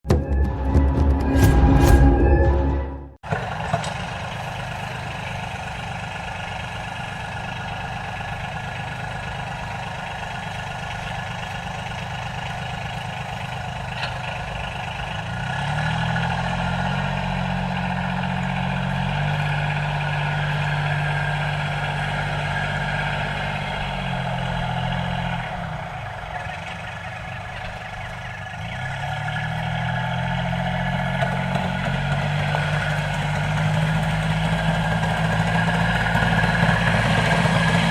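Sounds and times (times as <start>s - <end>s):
tractor engine idling and revving: 0.0s - 37.9s.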